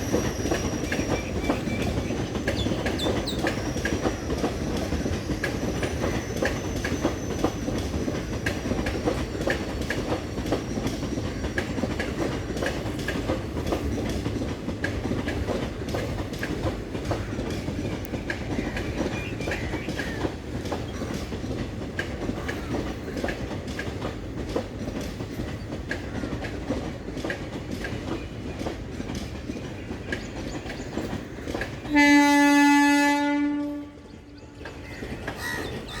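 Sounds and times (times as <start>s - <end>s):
train running rumble: 0.0s - 36.0s
wheels clicking over rail joints: 0.0s - 36.0s.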